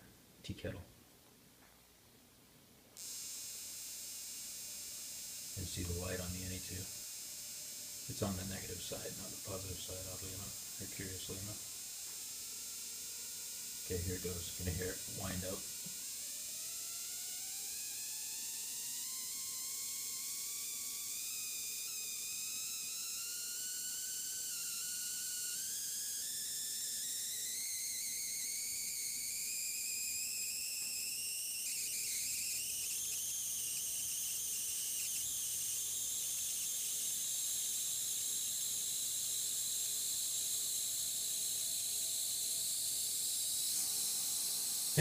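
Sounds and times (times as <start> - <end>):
electric discharge whistling: 3.0 - 45.0.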